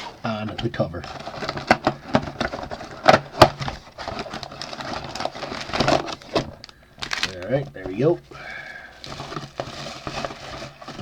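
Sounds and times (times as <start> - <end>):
cardboard rustling and scraping: 0.0 - 8.2, 9.0 - 11.0.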